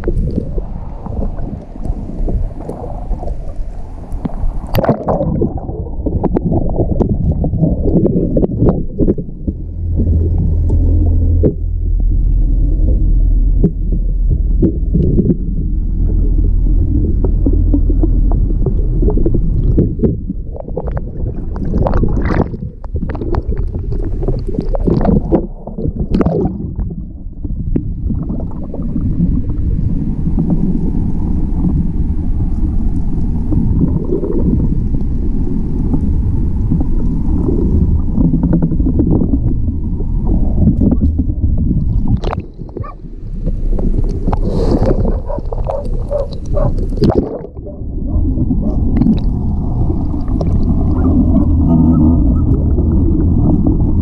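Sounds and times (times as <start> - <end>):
muffled underwater rumble: 0.0 - 54.0.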